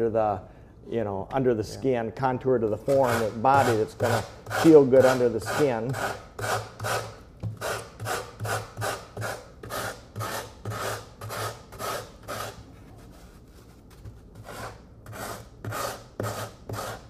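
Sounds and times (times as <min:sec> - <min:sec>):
rasp scraping foam: 0:02.8 - 0:17.0.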